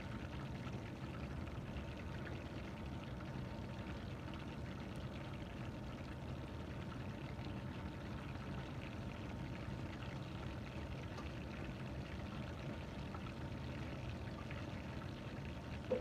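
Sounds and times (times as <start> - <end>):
chicken deep-frying in hot oil: 0.0 - 16.0.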